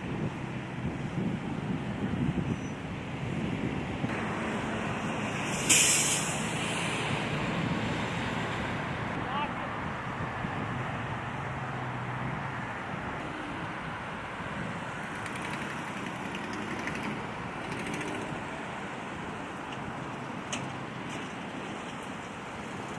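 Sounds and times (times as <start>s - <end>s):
low engine hum: 0.0s - 22.9s
road traffic rushing: 0.0s - 22.9s.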